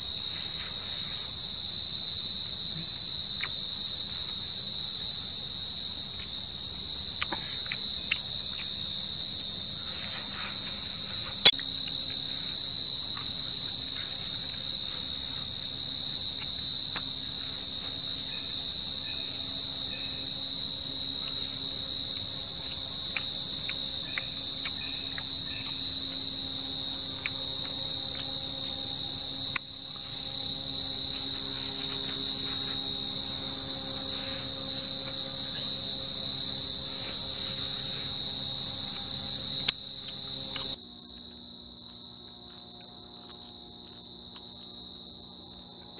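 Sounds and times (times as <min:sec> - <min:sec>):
chorus of forest insects: 0:00.0 - 0:45.9.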